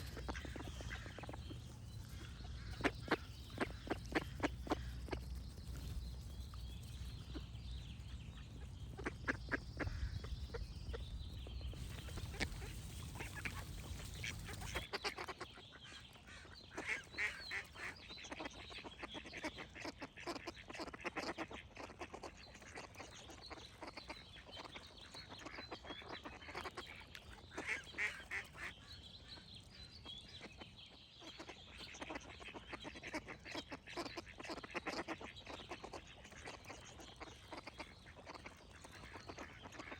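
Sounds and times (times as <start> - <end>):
ducks quacking: 0.0 - 5.8, 7.2 - 11.1, 11.7 - 28.8, 31.2 - 39.9
birds singing: 0.0 - 39.9.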